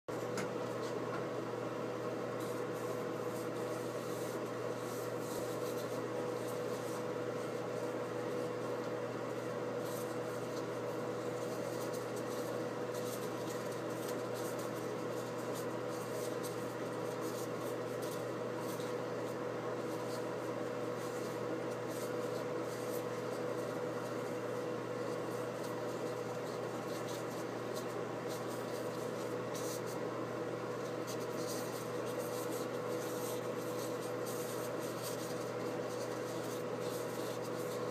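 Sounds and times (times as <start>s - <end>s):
steady machine hum: 0.1s - 37.9s.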